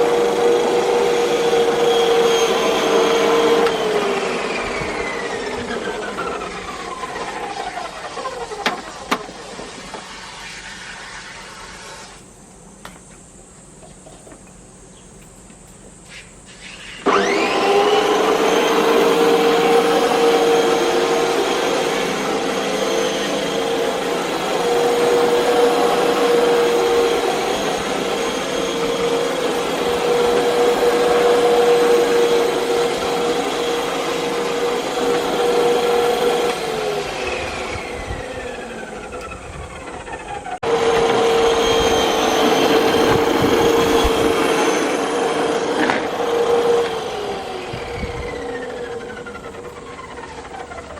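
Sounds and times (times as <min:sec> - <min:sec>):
electric lawn mower whine: 0:00.0 - 0:50.9.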